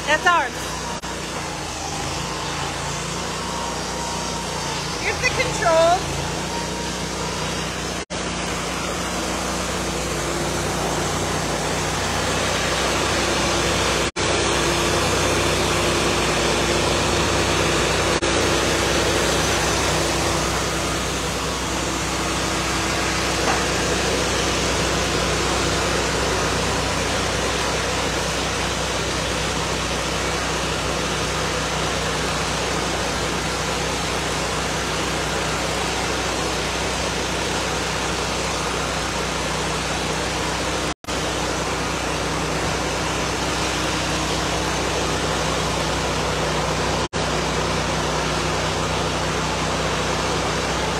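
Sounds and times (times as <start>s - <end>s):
band sawmill cutting log: 0.0s - 50.9s.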